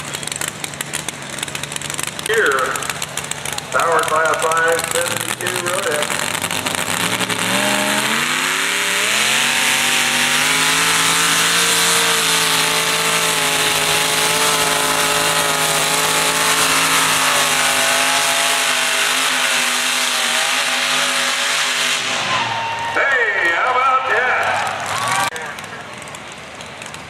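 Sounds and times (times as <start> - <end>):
tractor engine at full throttle: 0.0 - 27.0.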